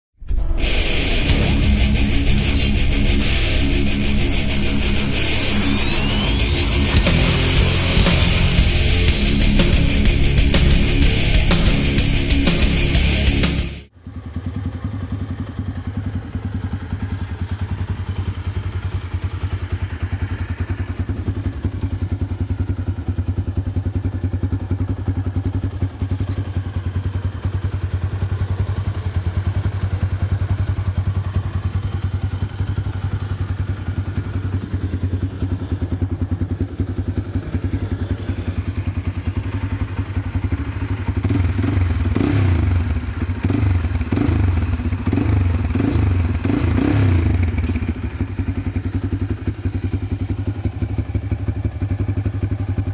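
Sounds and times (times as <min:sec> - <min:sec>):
motorcycle engine idling: 0:01.3 - 0:52.9.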